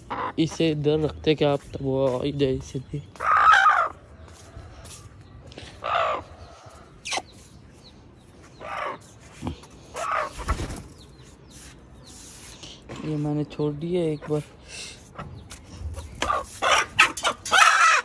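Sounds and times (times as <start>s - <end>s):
harsh bird calls: 0.0s - 18.0s.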